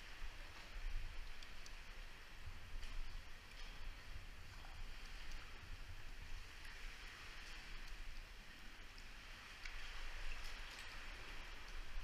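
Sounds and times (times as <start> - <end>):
faint water drips and splashes: 0.0 - 12.0
sea water washing in cave: 0.0 - 12.0.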